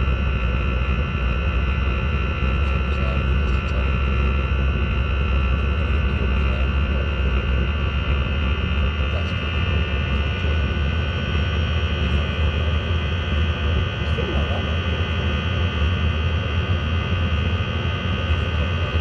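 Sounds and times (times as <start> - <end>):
air heater roaring: 0.0 - 19.0.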